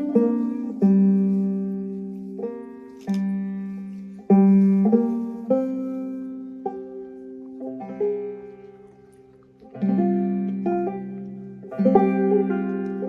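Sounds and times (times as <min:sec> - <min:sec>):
banjo plucked and strummed: 0:00.0 - 0:13.0.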